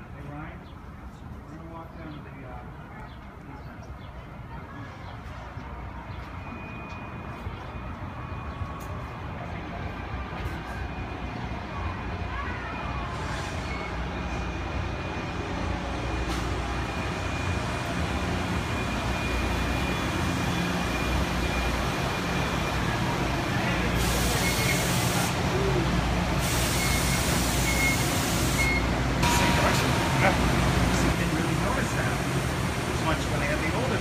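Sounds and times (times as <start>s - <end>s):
train wheels rumbling on rail: 4.9s - 34.0s.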